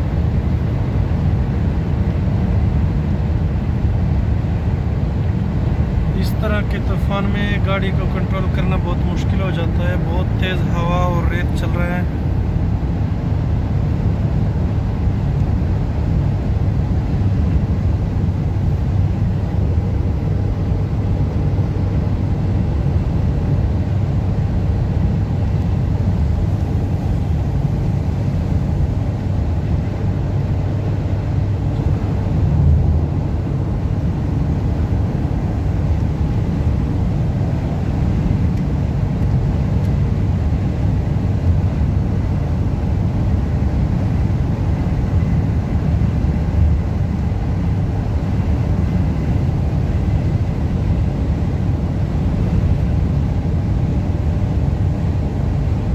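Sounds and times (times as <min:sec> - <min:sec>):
road rumble: 0:00.0 - 0:55.9
strong wind noise: 0:00.0 - 0:55.9.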